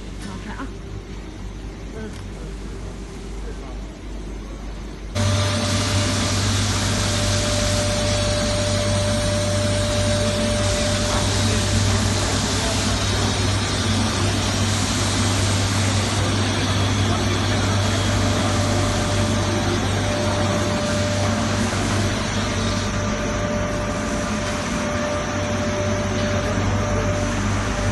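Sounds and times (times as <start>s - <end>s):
low machine hum: 0.0s - 27.9s.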